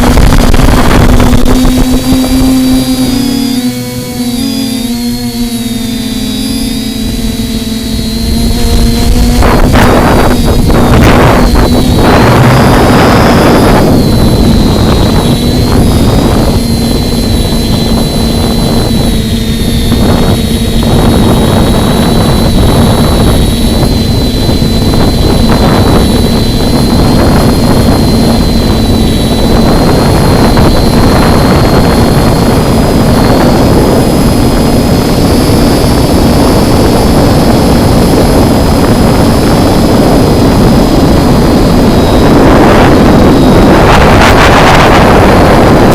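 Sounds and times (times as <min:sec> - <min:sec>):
quadcopter motors whining: 0:00.0 - 0:45.9
wind buffeting microphone: 0:00.0 - 0:45.9.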